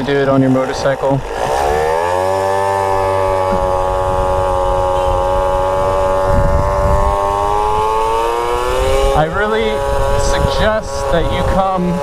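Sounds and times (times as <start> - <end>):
moped engine running: 0.0 - 12.0.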